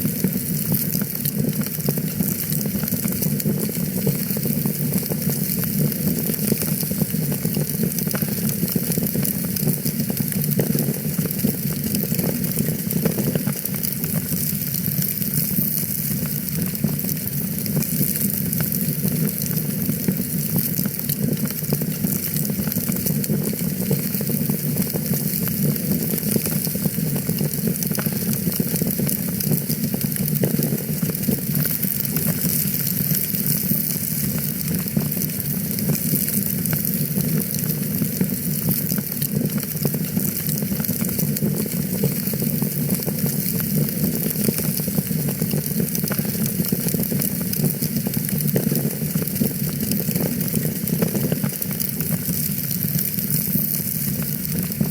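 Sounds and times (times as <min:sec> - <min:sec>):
wood fire crackling: 0:00.1 - 0:54.9.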